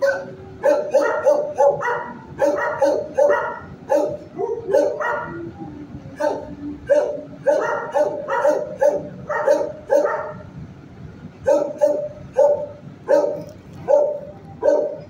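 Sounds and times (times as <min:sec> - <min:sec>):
dog barking: 0:00.0 - 0:05.5, 0:06.2 - 0:10.5, 0:11.4 - 0:15.0.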